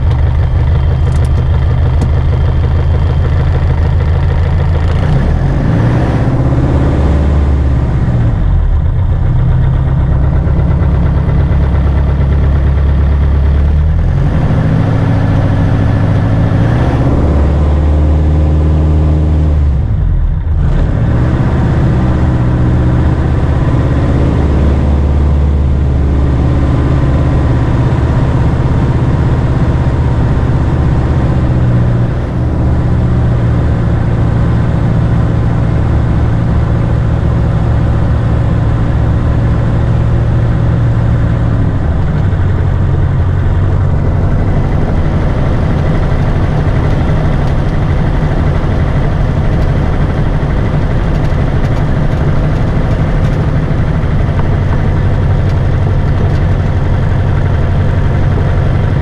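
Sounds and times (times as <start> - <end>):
aircraft piston engine and propeller: 0.0 - 59.0.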